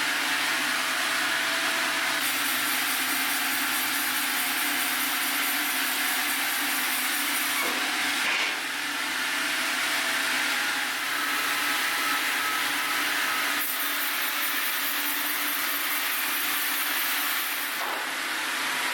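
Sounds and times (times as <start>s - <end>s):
sawmill saw cutting log: 0.0s - 18.9s.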